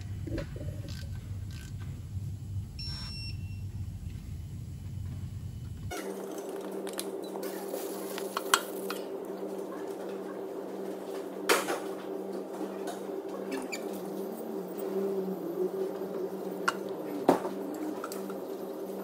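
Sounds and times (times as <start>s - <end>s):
low workshop hum: 0.0s - 19.0s.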